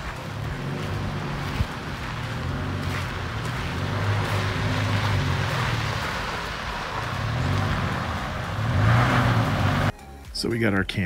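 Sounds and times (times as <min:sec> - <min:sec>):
truck engine running: 0:00.0 - 0:09.9
tyres hissing: 0:00.0 - 0:09.9.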